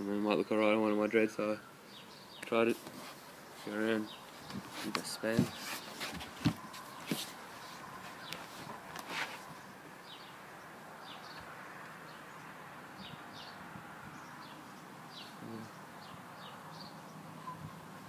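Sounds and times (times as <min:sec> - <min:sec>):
outdoor hiss: 0:00.0 - 0:18.0
small birds chirping: 0:00.0 - 0:18.0.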